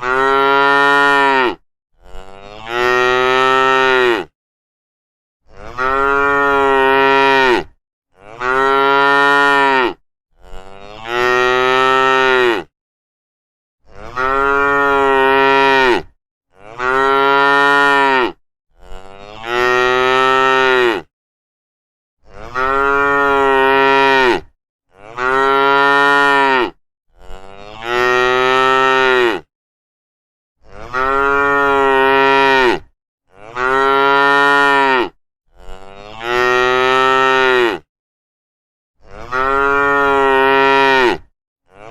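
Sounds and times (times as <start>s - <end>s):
cow mooing: 0.0s - 4.3s, 5.5s - 12.7s, 13.8s - 21.1s, 22.3s - 29.5s, 30.6s - 37.9s, 39.0s - 41.9s.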